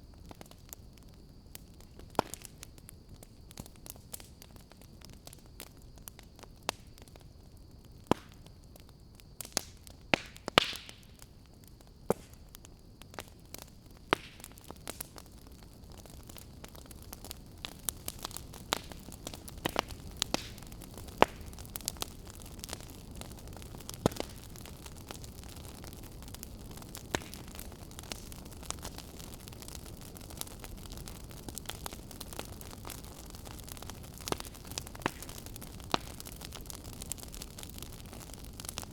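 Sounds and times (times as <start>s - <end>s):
fire hiss: 0.0s - 38.9s
wood fire crackling: 0.0s - 38.9s.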